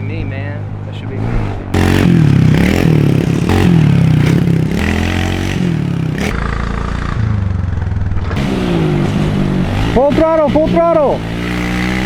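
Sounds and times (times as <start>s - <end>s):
dirt bike engine revving: 1.2s - 12.0s.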